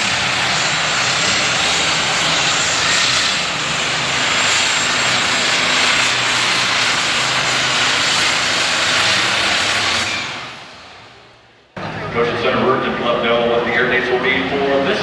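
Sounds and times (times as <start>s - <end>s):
tractor engine and turbo screaming: 0.0s - 15.0s.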